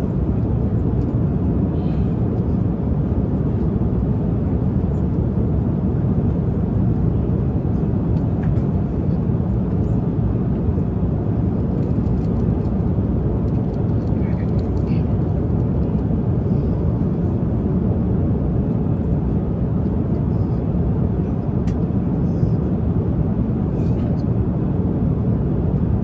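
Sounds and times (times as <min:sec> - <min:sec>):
airliner cabin engine rush: 0:00.0 - 0:26.0.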